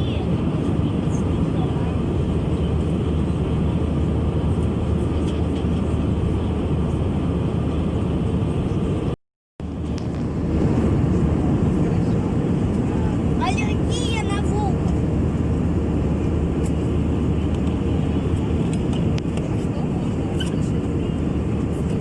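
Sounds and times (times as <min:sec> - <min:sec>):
airplane engines and airflow roar: 0:00.0 - 0:22.0.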